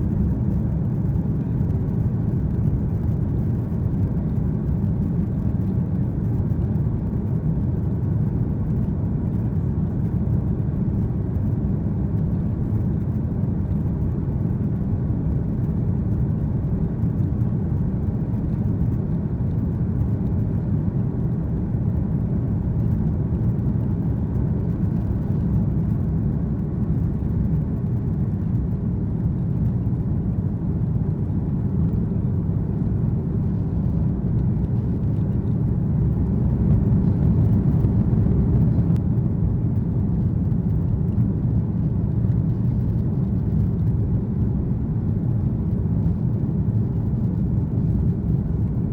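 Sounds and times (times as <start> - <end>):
jet engines at takeoff thrust: 0.0 - 48.9.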